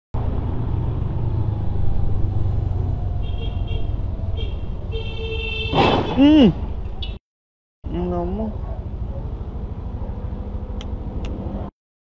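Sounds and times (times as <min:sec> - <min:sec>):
road and traffic rumble: 0:00.2 - 0:07.2, 0:07.8 - 0:11.7.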